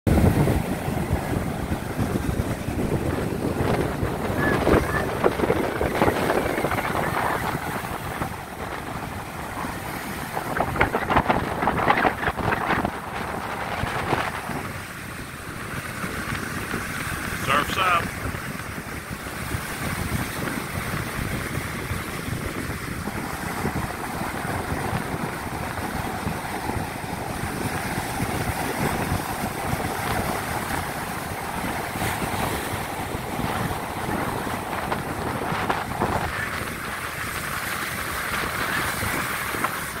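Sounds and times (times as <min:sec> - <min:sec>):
ocean surf breaking: 0:00.1 - 0:40.0
wind buffeting microphone: 0:00.1 - 0:40.0.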